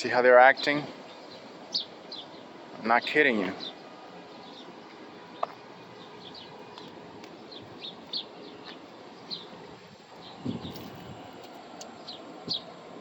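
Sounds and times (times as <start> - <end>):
outdoor background noise: 0.0 - 13.0
small birds chirping: 0.1 - 13.0.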